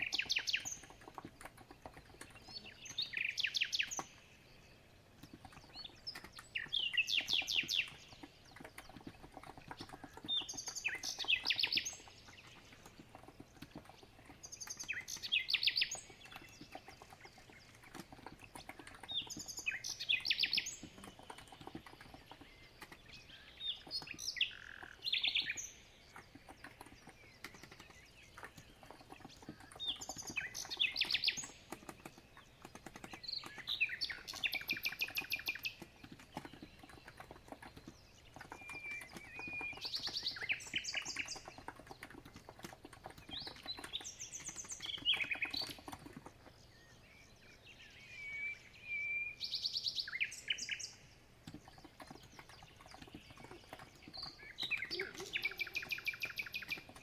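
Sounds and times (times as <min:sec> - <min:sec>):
bird trills and chirps: 0:00.0 - 0:57.0
keyboard typing clicks: 0:05.2 - 0:24.2, 0:24.8 - 0:46.5, 0:51.4 - 0:57.0.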